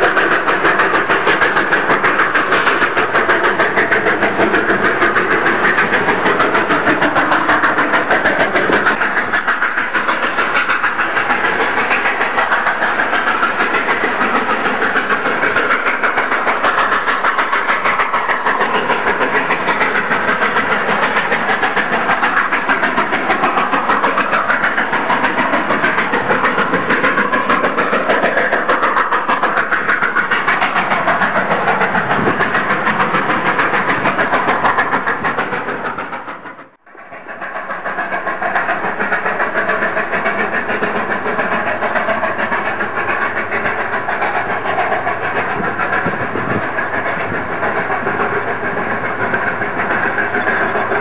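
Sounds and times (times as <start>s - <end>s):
steam locomotive chuffing: 0.0s - 51.0s.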